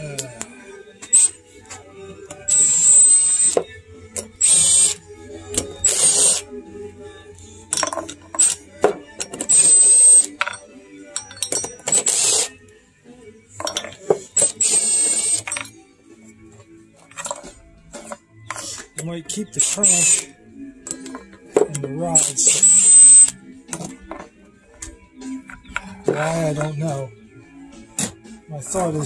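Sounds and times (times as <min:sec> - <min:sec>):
metal tools clinking: 0:00.0 - 0:06.4, 0:07.6 - 0:12.5, 0:13.5 - 0:15.8, 0:17.0 - 0:27.1.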